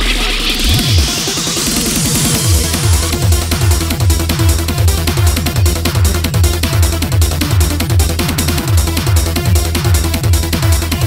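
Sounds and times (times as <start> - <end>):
fast rippling synth: 0.0 - 11.0
kick drum: 0.6 - 11.0
deep bass note: 1.8 - 11.0.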